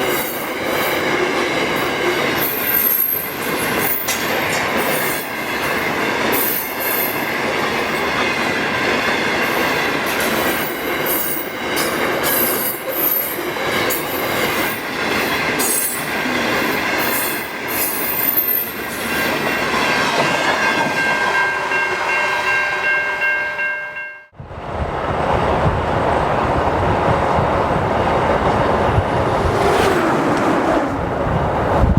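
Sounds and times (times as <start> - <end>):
freight train rumbling: 0.0 - 21.8, 24.4 - 31.9.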